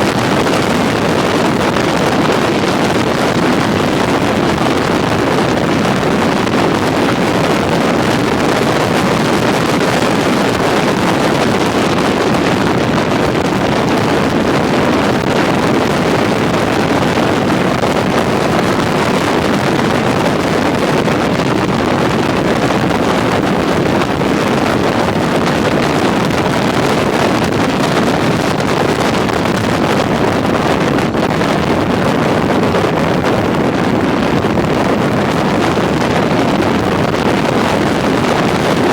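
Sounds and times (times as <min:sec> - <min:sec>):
motorcycle running noise: 0:00.0 - 0:38.9
wind rushing over microphone: 0:00.0 - 0:38.9.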